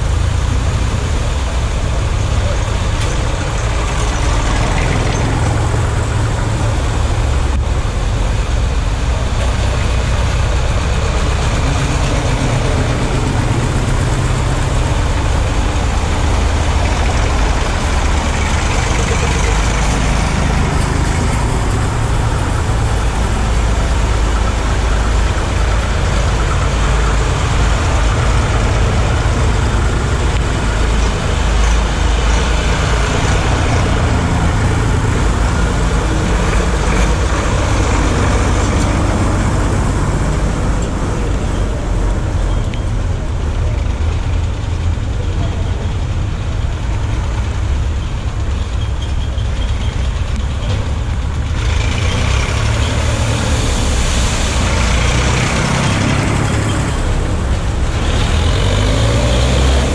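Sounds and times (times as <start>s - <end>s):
water rushing and splashing: 0.0s - 43.1s, 50.8s - 59.9s
tractor engines running: 0.0s - 59.9s.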